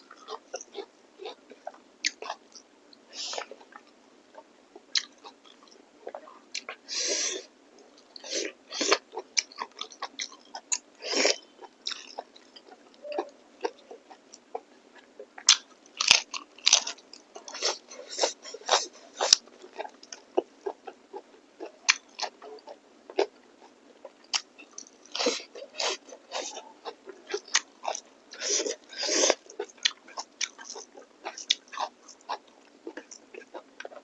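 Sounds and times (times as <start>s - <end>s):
person chewing food: 0.1s - 2.7s, 3.3s - 34.0s.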